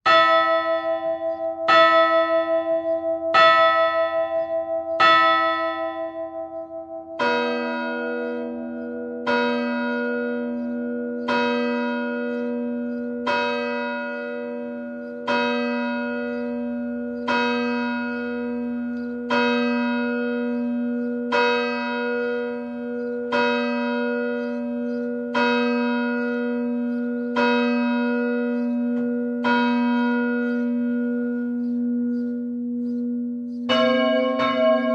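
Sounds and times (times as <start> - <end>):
higher church bell ringing: 0.0 - 34.9
deeper bell tolling: 0.1 - 34.9.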